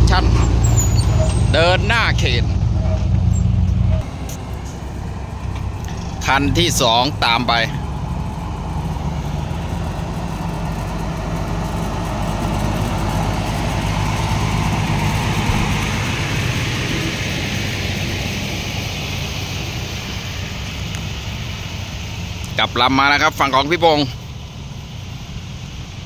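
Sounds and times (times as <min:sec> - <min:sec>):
diesel truck engine driving past: 0:00.0 - 0:26.0.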